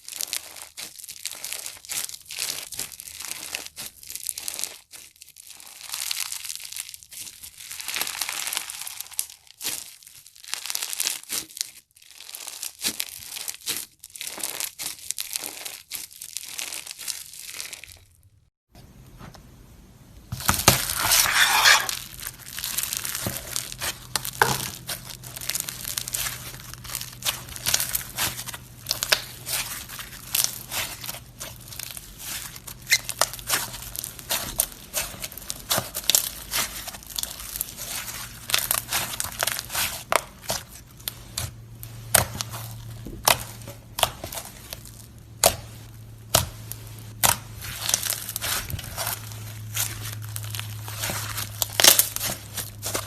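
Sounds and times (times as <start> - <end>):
slime crackling and popping: 0.0 - 18.5, 20.3 - 53.0.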